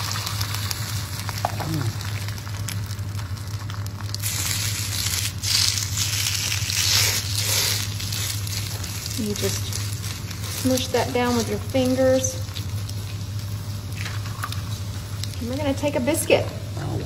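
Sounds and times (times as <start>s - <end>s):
egg frying sizzle: 0.0s - 16.8s
sausage meat sizzling: 0.0s - 17.0s.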